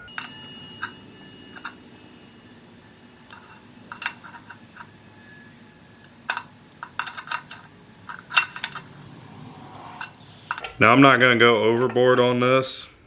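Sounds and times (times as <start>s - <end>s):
wrench clinking against metal: 0.0s - 10.7s.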